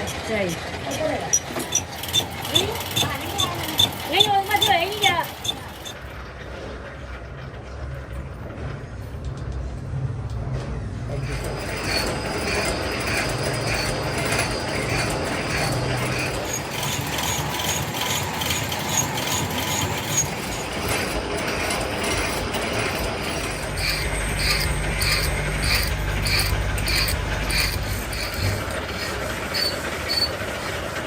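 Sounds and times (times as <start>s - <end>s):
workshop machinery humming: 0.0s - 31.0s.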